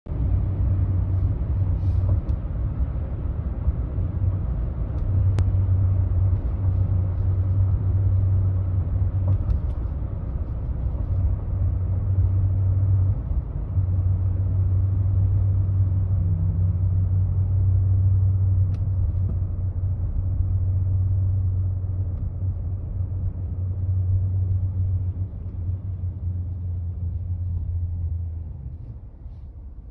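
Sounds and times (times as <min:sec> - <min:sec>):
road rumble: 0:00.0 - 0:29.9.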